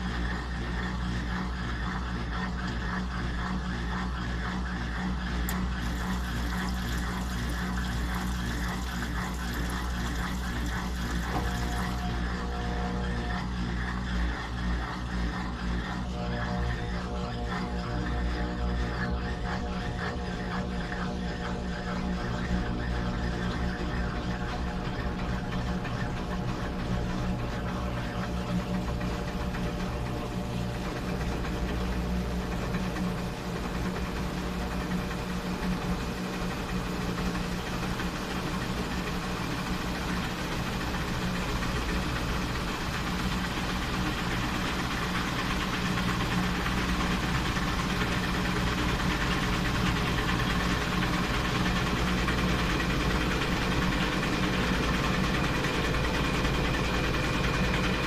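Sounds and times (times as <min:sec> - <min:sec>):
washing machine running: 0:00.0 - 0:58.0.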